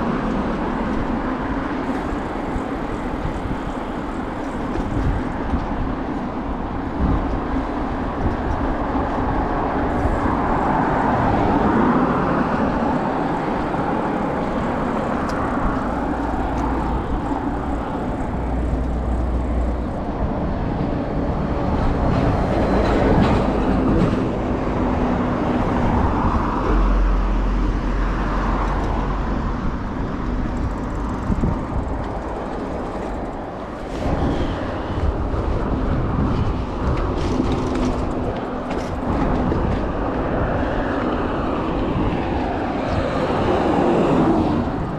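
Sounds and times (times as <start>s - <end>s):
wind rumbling on microphone: 0.0s - 44.9s
bicycle tyres rolling and rattling: 0.2s - 23.4s, 28.7s - 44.9s.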